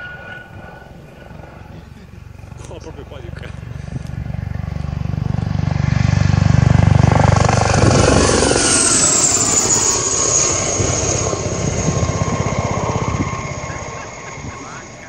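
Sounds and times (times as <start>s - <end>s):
helicopter rotor beat: 0.0s - 15.0s
high-pitched turbine whine: 0.0s - 15.0s.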